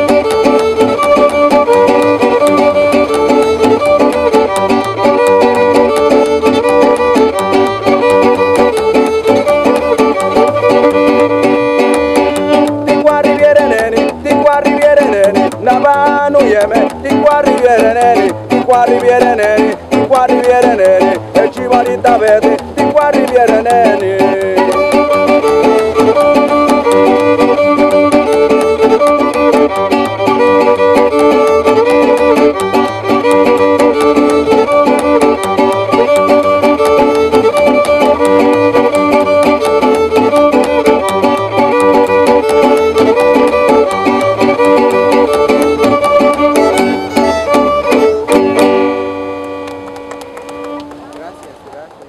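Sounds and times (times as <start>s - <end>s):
upright bass: 0.0s - 51.9s
violin melody: 0.0s - 51.9s
strummed small guitar: 0.0s - 52.0s.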